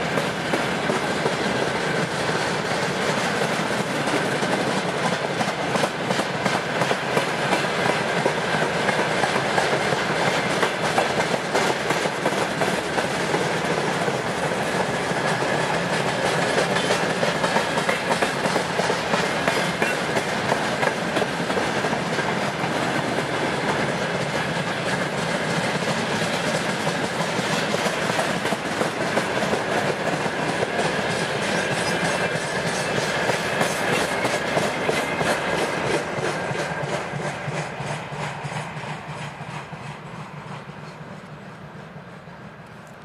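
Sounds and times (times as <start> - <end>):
wheels clicking over rail joints: 0.0 - 41.6
freight train rolling past: 0.0 - 43.0.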